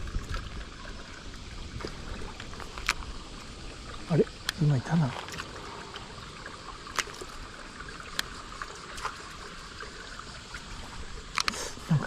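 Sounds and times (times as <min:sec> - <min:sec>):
water trickling in a channel: 0:00.0 - 0:12.0.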